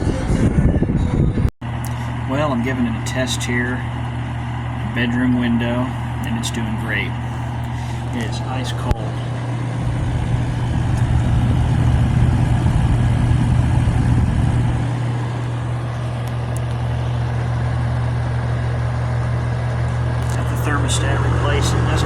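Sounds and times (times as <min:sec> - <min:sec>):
air conditioner running: 0:00.0 - 0:22.0
deep rumble: 0:00.0 - 0:22.0.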